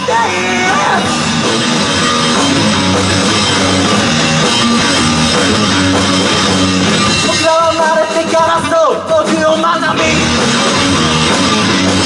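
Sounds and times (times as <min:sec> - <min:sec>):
rock band playing instrumental: 0:00.0 - 0:12.0.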